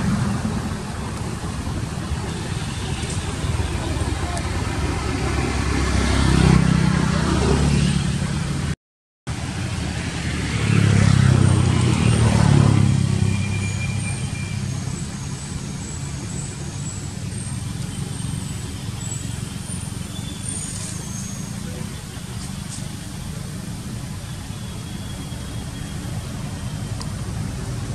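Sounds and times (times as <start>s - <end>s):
vehicle engine passing: 0.0s - 24.4s.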